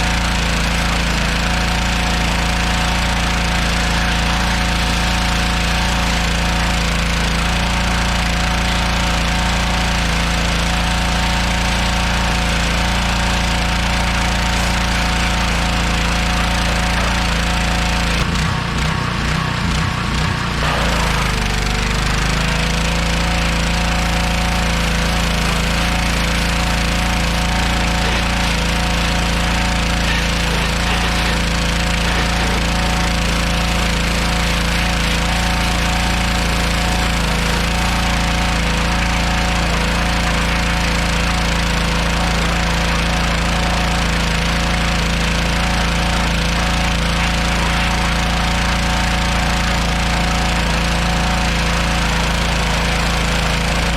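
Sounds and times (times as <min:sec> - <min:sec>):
engine running with rough pulse: 0:00.0 - 0:53.9.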